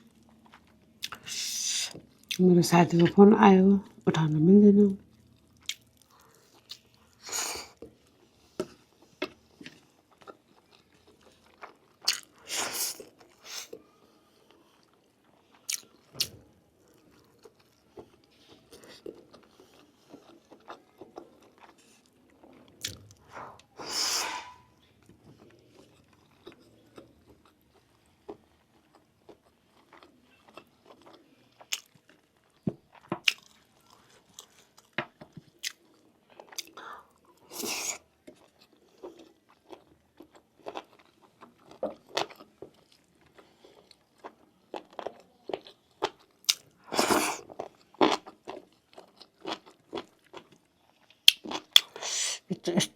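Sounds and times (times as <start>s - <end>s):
person chewing and crunching: 0.0s - 1.4s, 5.0s - 23.8s, 24.4s - 52.2s.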